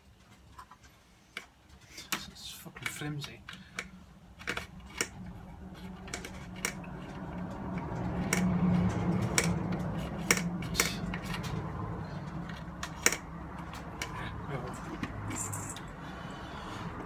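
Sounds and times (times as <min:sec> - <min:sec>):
scraping and rustling: 0:00.0 - 0:17.0.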